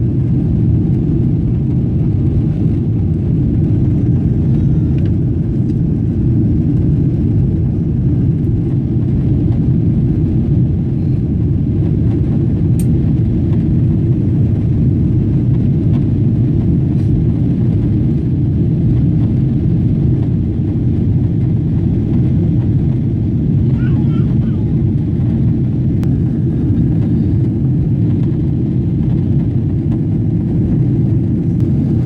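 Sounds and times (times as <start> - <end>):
jet engine cabin rumble: 0.0 - 32.0.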